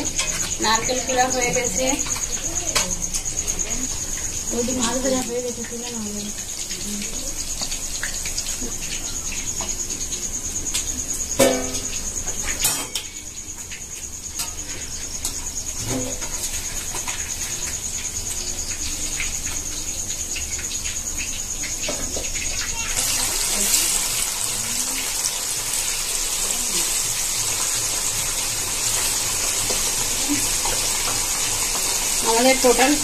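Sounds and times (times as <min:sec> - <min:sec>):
fish deep-frying in oil: 0:00.0 - 0:33.0
steady hiss: 0:00.0 - 0:33.0.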